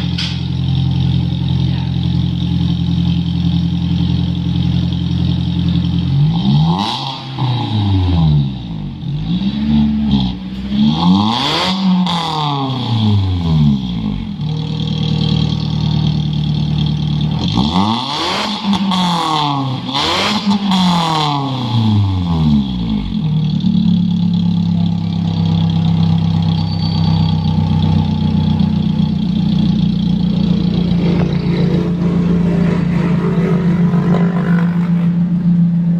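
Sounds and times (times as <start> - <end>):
car engine revving and idling: 0.0 - 35.9.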